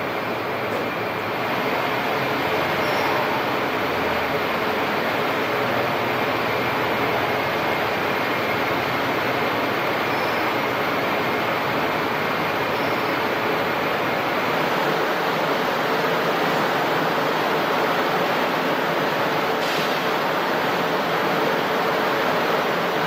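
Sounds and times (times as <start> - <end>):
train wheels running on rail: 0.0 - 23.0.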